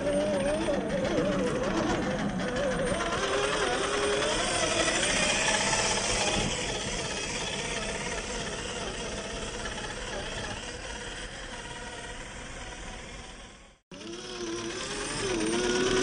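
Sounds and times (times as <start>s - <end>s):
toy car motor whining: 0.0s - 16.0s.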